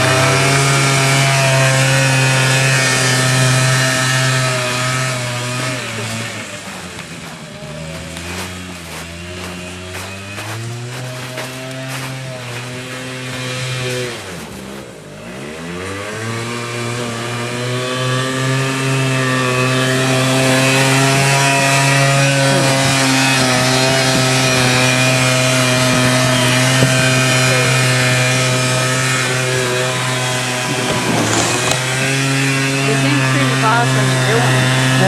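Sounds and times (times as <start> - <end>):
quad bike engine revving: 0.0 - 35.0.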